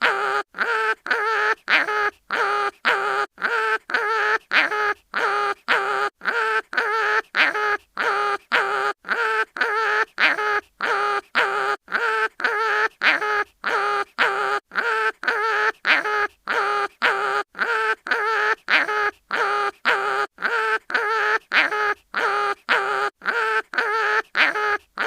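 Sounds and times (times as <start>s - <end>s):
cartoon animal crying in pain: 0.0s - 25.0s.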